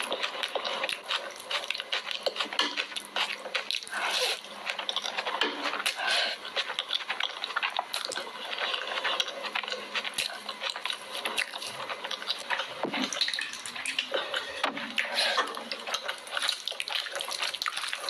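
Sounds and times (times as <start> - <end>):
wet chewing and smacking: 0.0 - 18.0.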